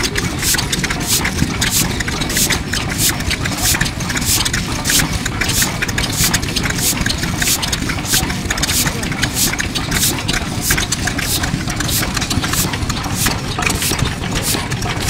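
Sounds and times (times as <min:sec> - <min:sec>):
diesel engine exhaust puffing: 0:00.0 - 0:15.0
low engine rumble: 0:00.0 - 0:15.0.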